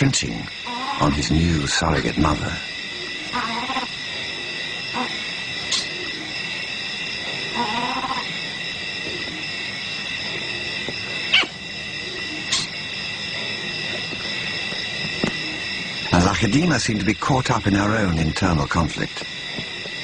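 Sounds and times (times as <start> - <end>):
wavering animal call: 0.0 - 17.0
insects chorus: 0.0 - 20.0.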